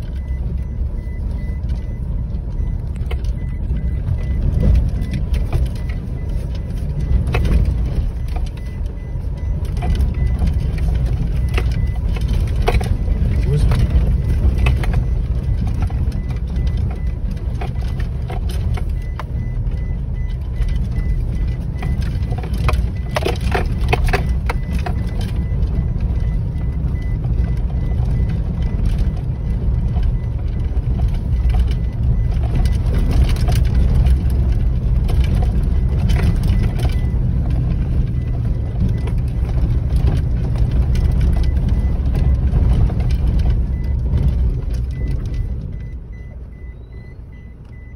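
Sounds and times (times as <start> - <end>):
engine and tyre rumble in cabin: 0.0 - 47.9
knocks and rattles over bumps: 0.0 - 47.9.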